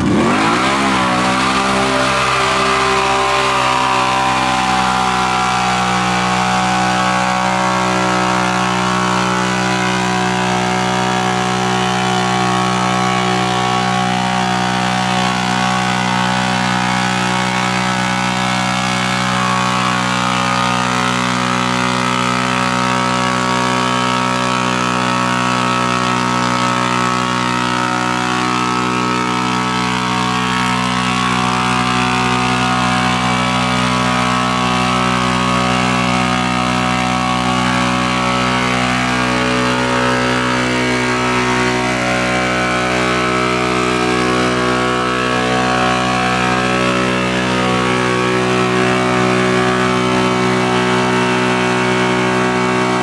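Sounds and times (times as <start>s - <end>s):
atv engine steady revs: 0.0s - 53.0s
tires churning in mud: 0.0s - 53.0s.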